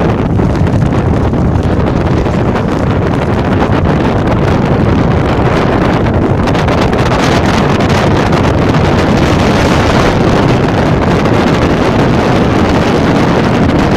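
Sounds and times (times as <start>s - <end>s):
blizzard wind buffeting microphone: 0.0s - 13.9s.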